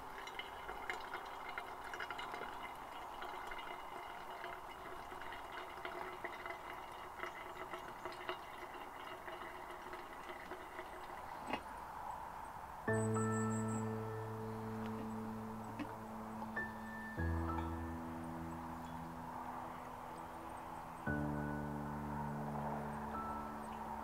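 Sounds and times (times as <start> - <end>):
hot water trickling onto coffee: 0.0 - 11.9, 12.9 - 24.0.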